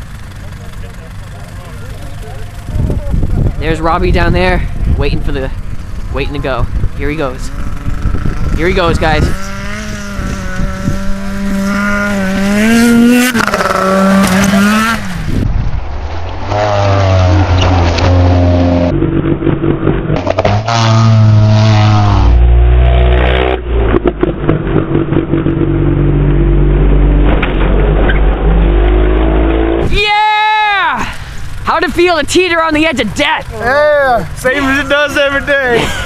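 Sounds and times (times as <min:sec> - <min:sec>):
snowmobile engines revving: 0:00.0 - 0:15.4, 0:16.5 - 0:36.0.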